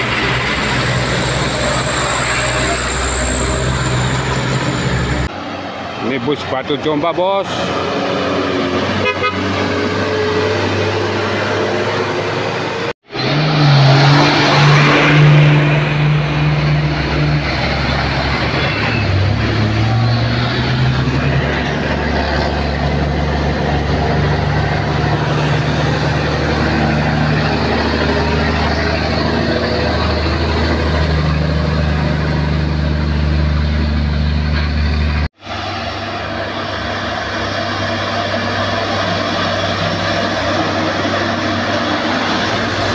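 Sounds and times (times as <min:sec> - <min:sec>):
heavy trucks passing: 0:00.0 - 0:42.9.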